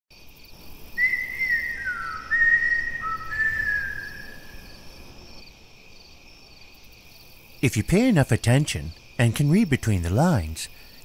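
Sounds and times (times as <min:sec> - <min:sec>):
crickets chirping: 0:00.1 - 0:11.0.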